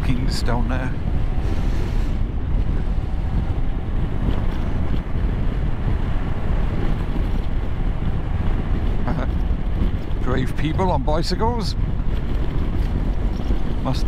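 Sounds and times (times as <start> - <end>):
wind roaring over microphone: 0.0 - 14.0.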